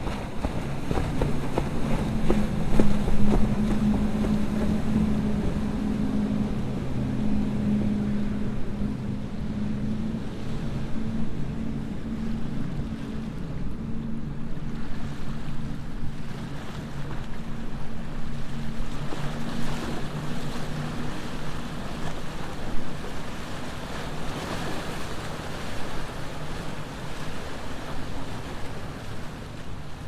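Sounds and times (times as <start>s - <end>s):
boat engines droning: 0.0s - 30.0s
surf: 0.0s - 30.0s.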